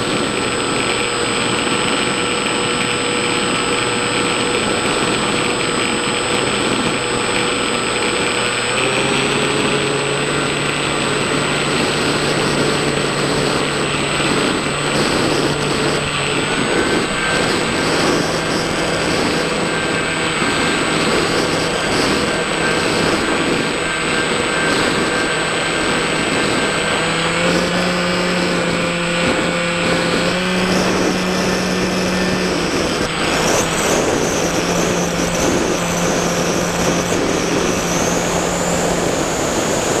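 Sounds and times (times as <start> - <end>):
electric motor whine: 0.0 - 40.0
rush of air: 0.0 - 40.0.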